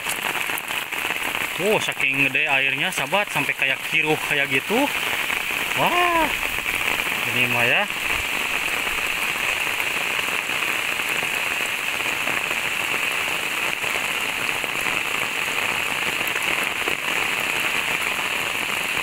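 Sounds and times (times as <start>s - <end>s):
rush of water: 0.0s - 19.0s.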